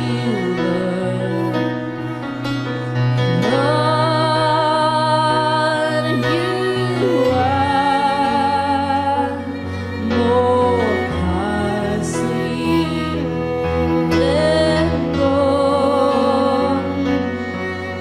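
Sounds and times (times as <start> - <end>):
person singing with vibrato: 0.0 - 2.2, 3.2 - 18.0
sustained instrumental backing: 0.0 - 18.0.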